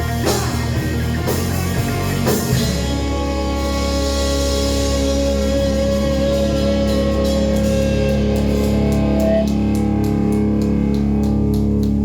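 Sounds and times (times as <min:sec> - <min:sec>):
distorted electric guitars: 0:00.0 - 0:12.0.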